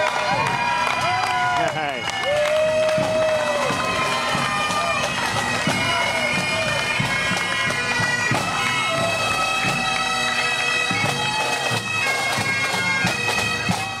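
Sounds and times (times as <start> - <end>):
bagpipes playing melody: 0.0 - 14.0.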